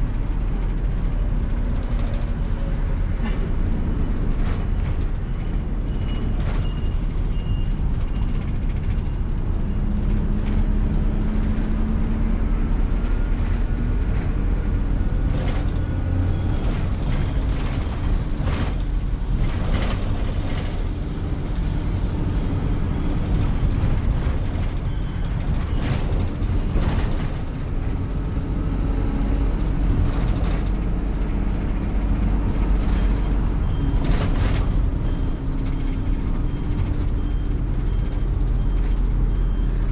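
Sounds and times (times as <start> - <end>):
bus engine rumble: 0.0 - 39.9.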